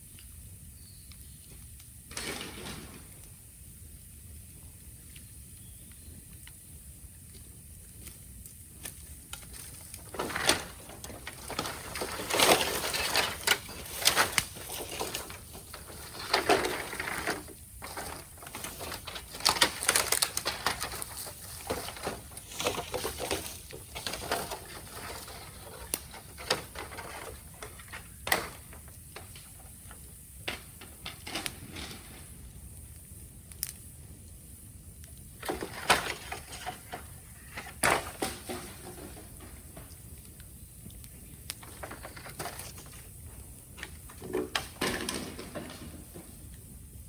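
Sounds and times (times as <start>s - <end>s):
bamboo crackling and popping in fire: 0.0s - 47.0s.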